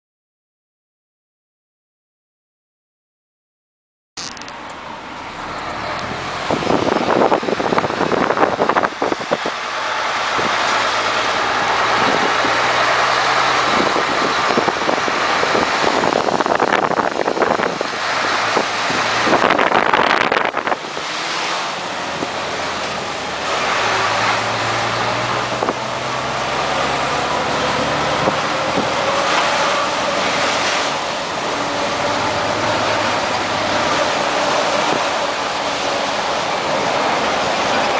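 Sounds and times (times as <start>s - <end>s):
tyre and road noise: 4.2s - 37.9s
truck diesel engine running: 4.3s - 37.9s.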